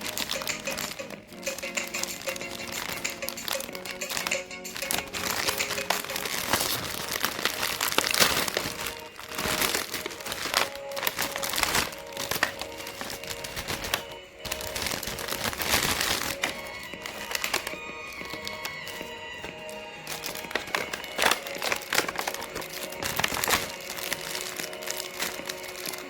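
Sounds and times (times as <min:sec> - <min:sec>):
candy wrappers crinkling and tearing: 0:00.0 - 0:26.0
soft background music: 0:00.0 - 0:26.0.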